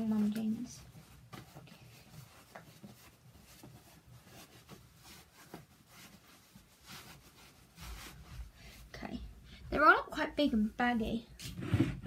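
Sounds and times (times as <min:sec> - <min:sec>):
rustles of jeans being folded: 0:00.0 - 0:09.9.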